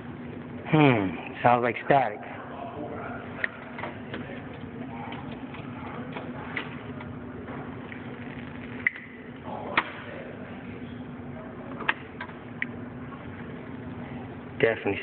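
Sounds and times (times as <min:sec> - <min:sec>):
static hum and hiss: 0:00.0 - 0:15.0.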